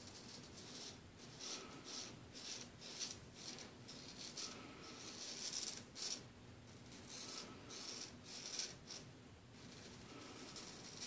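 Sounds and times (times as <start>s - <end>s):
razor scraping stubble: 0.0s - 6.2s, 6.9s - 11.0s.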